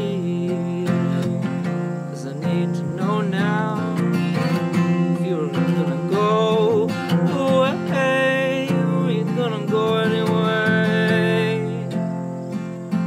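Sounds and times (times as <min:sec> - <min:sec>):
man singing wordless vowels: 0:00.0 - 0:12.1
acoustic guitar strumming: 0:00.0 - 0:13.0.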